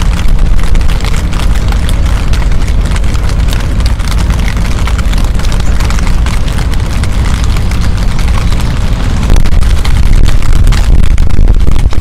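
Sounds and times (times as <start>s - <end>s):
rain pattering: 0.0s - 12.0s
wind buffeting microphone: 0.0s - 12.0s.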